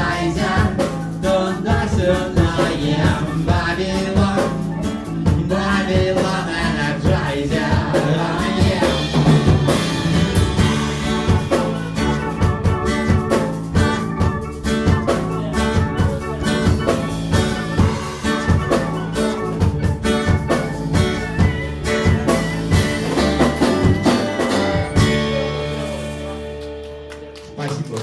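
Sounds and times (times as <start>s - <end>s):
live rock band playing: 0.0s - 27.9s
drumming: 0.0s - 28.0s.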